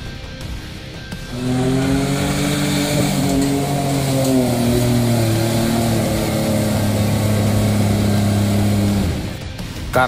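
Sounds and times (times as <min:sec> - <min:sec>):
engine revving under load: 0:01.3 - 0:09.5.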